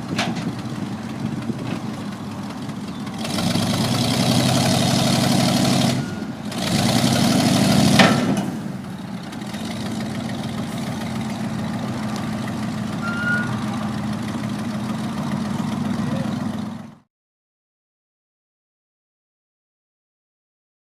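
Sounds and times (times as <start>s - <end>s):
truck engine idling: 0.0s - 17.1s.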